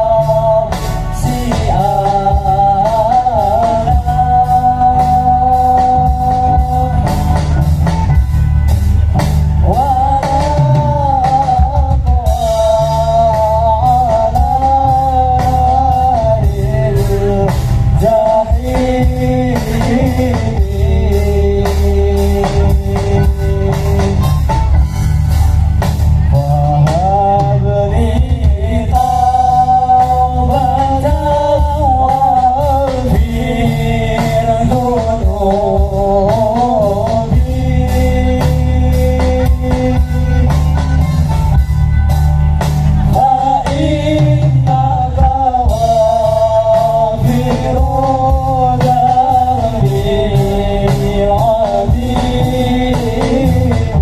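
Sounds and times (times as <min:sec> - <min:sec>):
person singing: 0:00.0 - 0:08.3, 0:09.6 - 0:24.8, 0:26.1 - 0:41.6, 0:42.8 - 0:54.0
drum beat: 0:00.0 - 0:54.0
heavy bass: 0:00.0 - 0:54.0.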